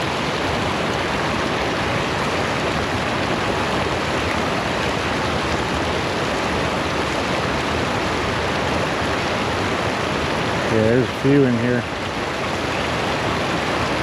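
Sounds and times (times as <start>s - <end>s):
water pouring over waterfall: 0.0s - 14.0s.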